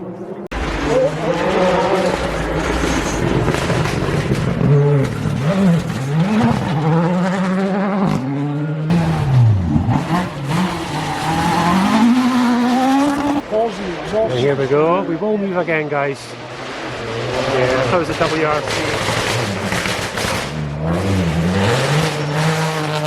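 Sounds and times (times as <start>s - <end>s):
rally car engine revving: 0.1s - 23.0s.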